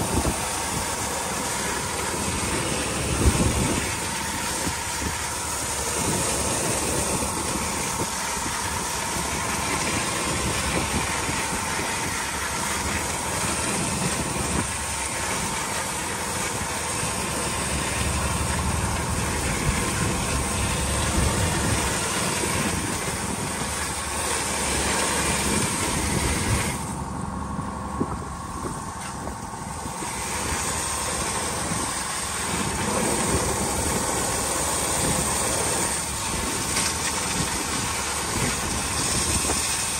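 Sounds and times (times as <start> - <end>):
boat engine rumbling: 0.0 - 39.9.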